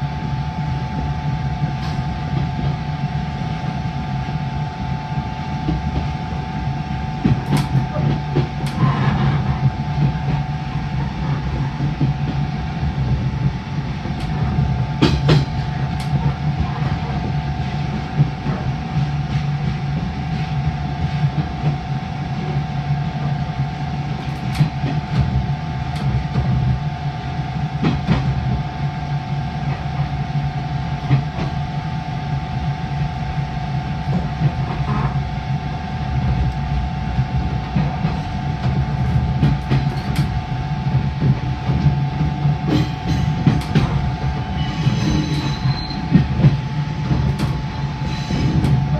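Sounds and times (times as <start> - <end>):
train rumble from inside: 0.0 - 48.9.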